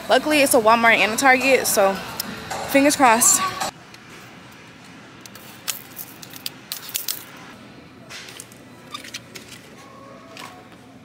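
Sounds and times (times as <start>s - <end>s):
store background noise: 0.0s - 11.0s.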